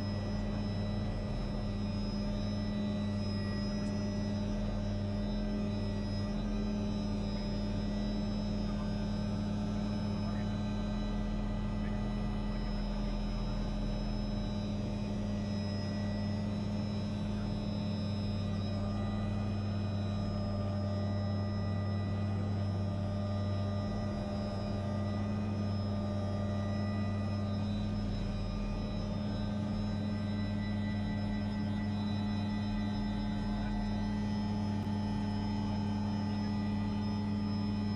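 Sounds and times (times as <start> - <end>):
helicopter drone from cockpit: 0.0 - 37.9.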